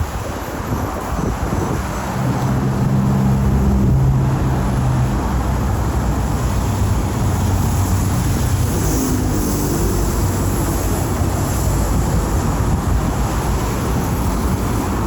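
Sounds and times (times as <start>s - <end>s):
road traffic rumble: 0.0s - 15.0s
vehicle engine humming: 0.1s - 15.0s.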